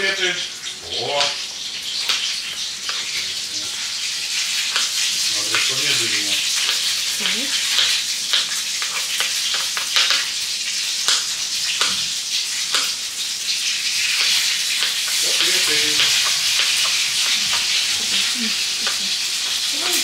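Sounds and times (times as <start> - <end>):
cutlets sizzling in a frying pan: 0.0 - 20.0.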